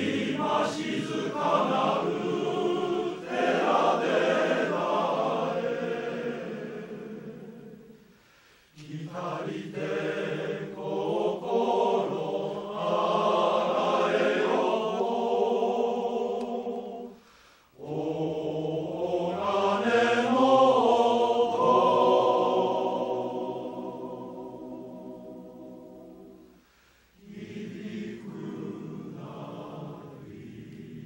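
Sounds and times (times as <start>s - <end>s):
men's choir singing: 0.0s - 8.1s, 8.7s - 17.2s, 17.8s - 26.4s, 27.2s - 31.0s.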